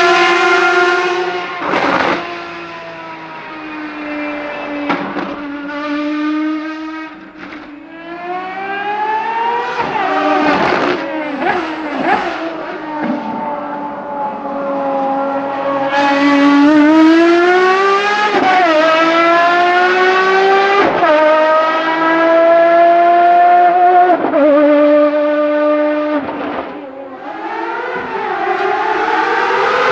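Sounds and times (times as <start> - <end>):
race car engine at high revs: 0.0 - 29.9.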